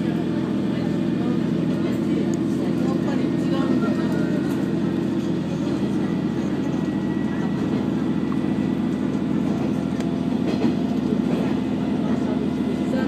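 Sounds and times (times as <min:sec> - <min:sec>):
diesel engine drone: 0:00.0 - 0:13.0
railcar running noise: 0:00.0 - 0:13.0.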